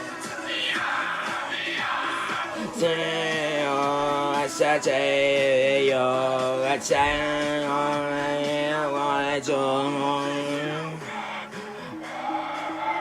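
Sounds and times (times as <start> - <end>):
person singing long notes: 0.4 - 13.0.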